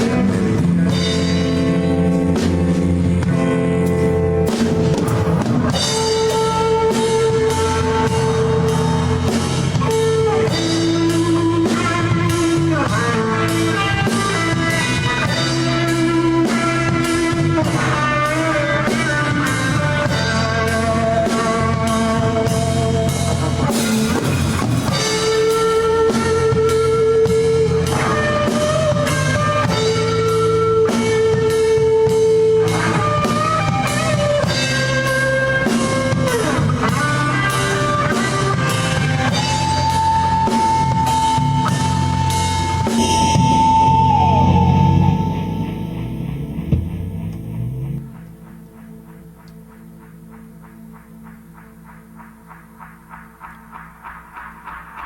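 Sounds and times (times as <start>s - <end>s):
drum kit steady beat: 0.0s - 55.0s
electric guitar long bent notes: 0.0s - 55.0s.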